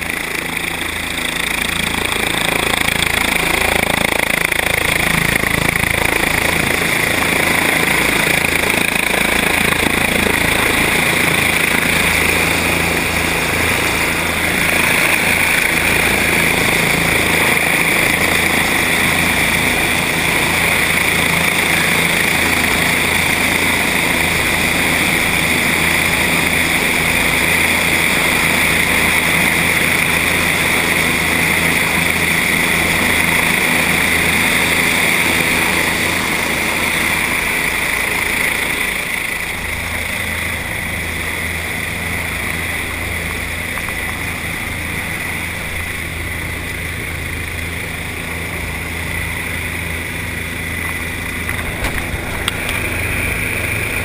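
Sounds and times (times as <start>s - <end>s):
helicopter engine and rotor: 0.0s - 54.0s
high whine: 0.0s - 54.0s.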